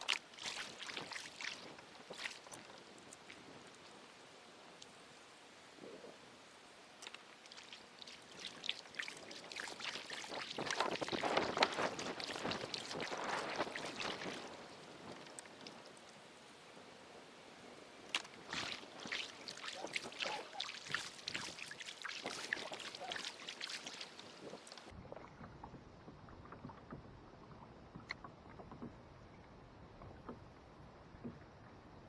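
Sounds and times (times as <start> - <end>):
water splashing around kayak: 0.0 - 5.0, 6.9 - 16.3, 18.0 - 32.0.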